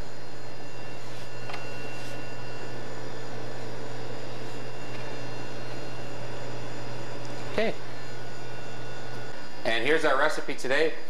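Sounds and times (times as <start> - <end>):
low hum with even hiss: 0.0 - 11.0.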